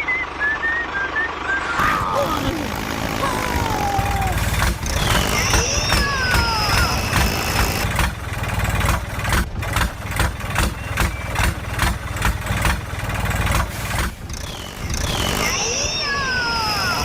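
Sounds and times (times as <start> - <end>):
engine idling with regular chug: 0.0 - 16.9.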